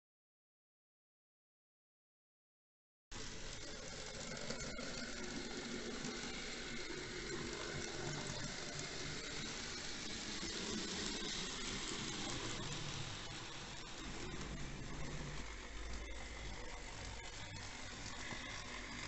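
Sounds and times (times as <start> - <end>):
model train whirring on track: 3.2 - 19.0.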